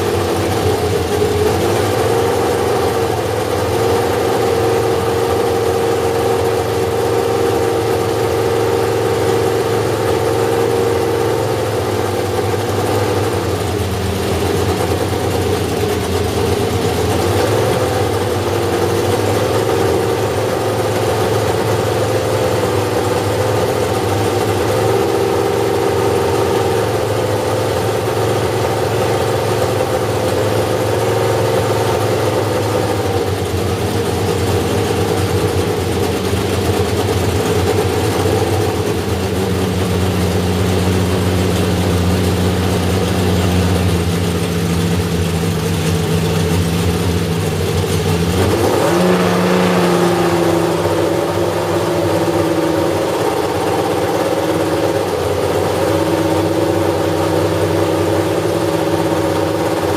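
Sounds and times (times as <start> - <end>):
racing car engine idling: 0.0 - 59.9.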